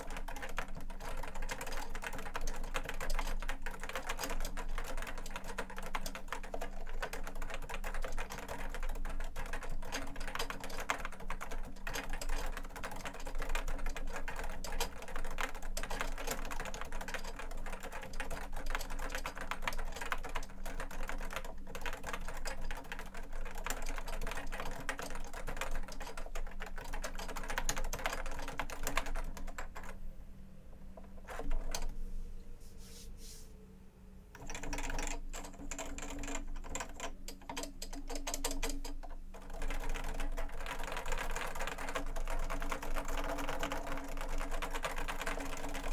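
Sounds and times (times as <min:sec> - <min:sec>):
fast typing on keyboard: 0:00.0 - 0:30.0, 0:31.0 - 0:31.9, 0:34.4 - 0:45.9.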